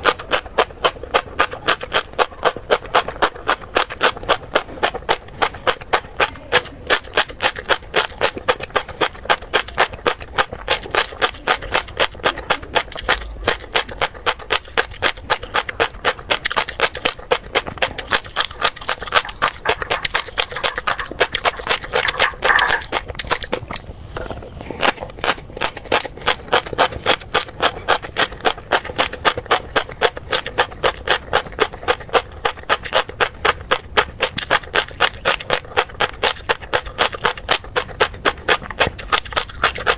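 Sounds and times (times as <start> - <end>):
chewing crunchy fish roe: 0.0 - 39.9.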